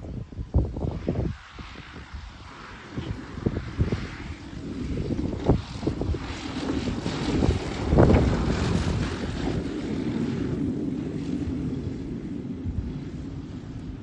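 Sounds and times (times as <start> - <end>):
propeller engine running: 0.0 - 14.0
wind buffeting microphone: 0.0 - 14.0.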